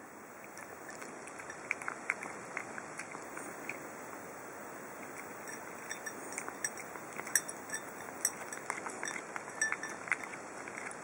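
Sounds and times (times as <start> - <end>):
faint steady hiss: 0.0 - 11.0
cat chewing and clinking plate: 0.4 - 4.3, 4.9 - 11.0.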